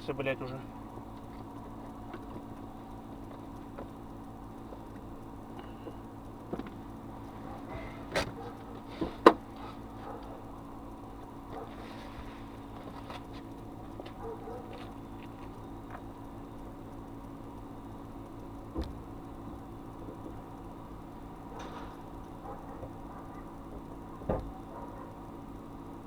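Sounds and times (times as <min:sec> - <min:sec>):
car driving cabin drone: 0:00.0 - 0:26.0.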